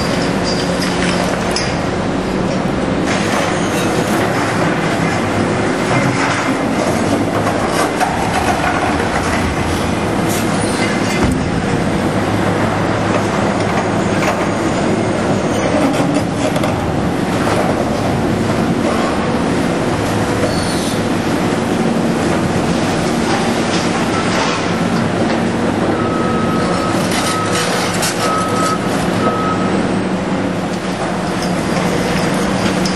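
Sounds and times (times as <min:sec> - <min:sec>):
diesel engine under load: 0:00.0 - 0:32.9.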